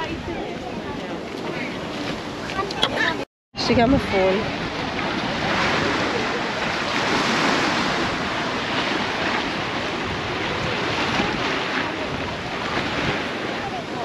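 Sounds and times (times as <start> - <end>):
choppy water washing against bank: 0.0 - 14.0
wind buffeting microphone: 0.0 - 14.0.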